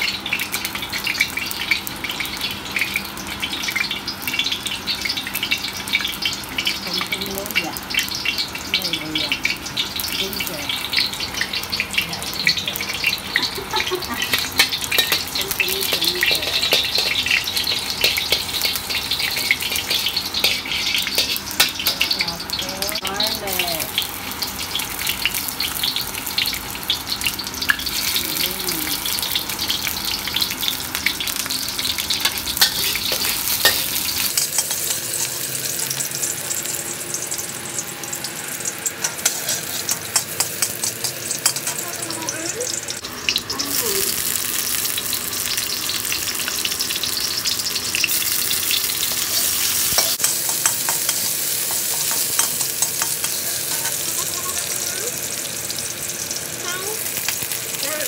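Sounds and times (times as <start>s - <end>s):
garlic and onion sizzling in oil: 0.0s - 58.0s.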